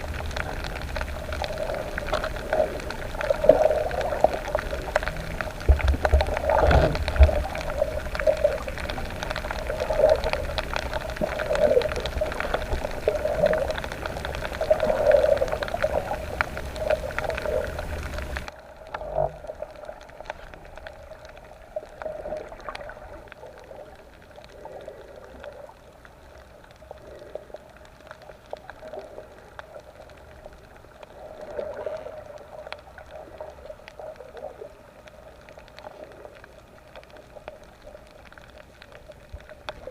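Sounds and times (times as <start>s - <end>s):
low underwater rumble: 0.0s - 39.9s
underwater gurgling and bubbling: 0.0s - 39.9s.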